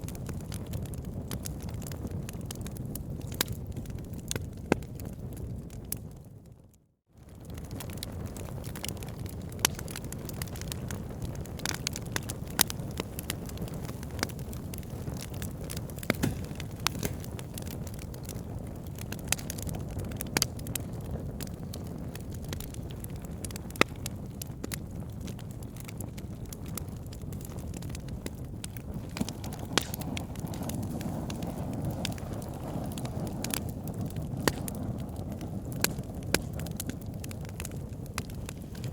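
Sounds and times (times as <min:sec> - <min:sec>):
wood fire crackling: 0:00.0 - 0:06.3, 0:07.2 - 0:38.9
sharp snaps of burning logs: 0:00.1 - 0:02.6, 0:07.4 - 0:38.9.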